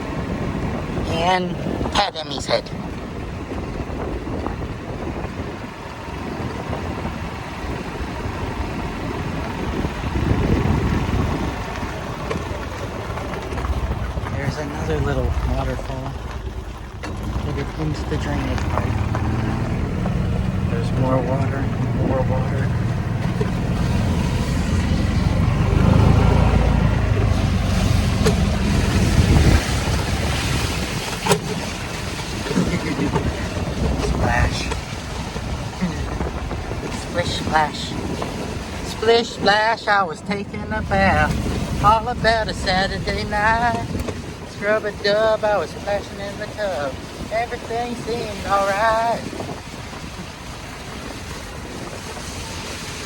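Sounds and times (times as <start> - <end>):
vehicle rumbling while driving: 0.0 - 53.0
wind buffeting microphone: 0.0 - 53.0.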